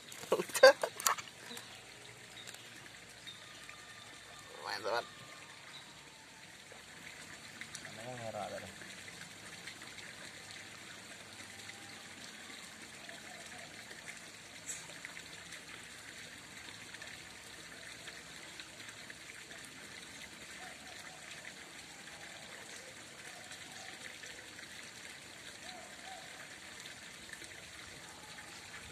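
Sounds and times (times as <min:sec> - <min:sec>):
water trickling into a pond: 0:00.0 - 0:28.9.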